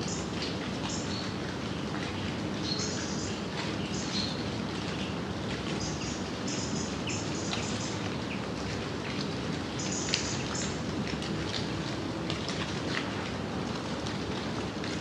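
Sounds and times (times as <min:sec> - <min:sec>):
gentle steady rain: 0:00.0 - 0:15.0
raindrops ticking: 0:00.0 - 0:15.0.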